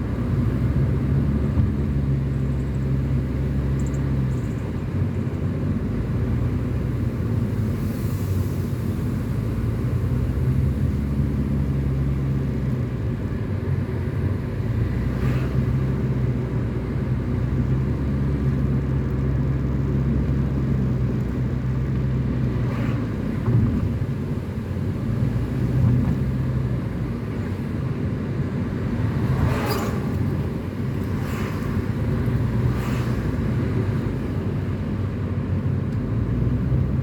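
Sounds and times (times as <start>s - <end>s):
car engine hum: 0.0s - 37.0s
tyre and road noise: 0.0s - 37.0s.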